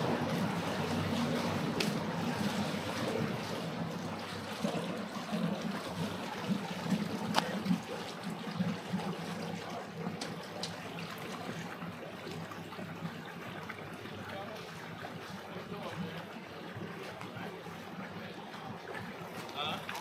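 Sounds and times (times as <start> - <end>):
water lapping and trickling: 0.0 - 20.0.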